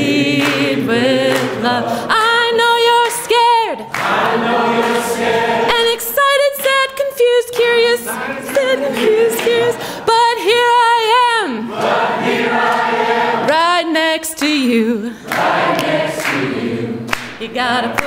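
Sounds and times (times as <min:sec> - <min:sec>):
congregation singing a cappella: 0:00.0 - 0:18.0.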